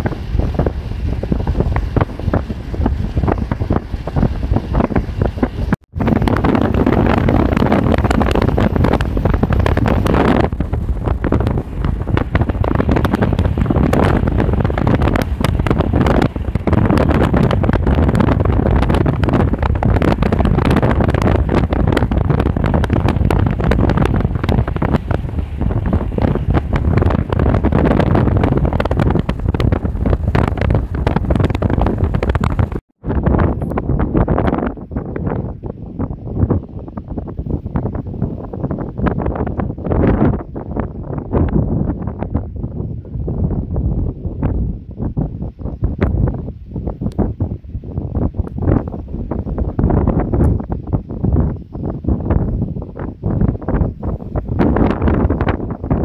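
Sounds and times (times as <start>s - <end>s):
wind blowing on microphone: 0.0s - 56.0s.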